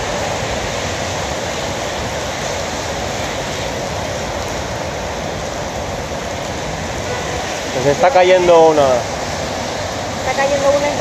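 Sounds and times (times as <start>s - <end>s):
heavy rain on street: 0.0s - 11.0s.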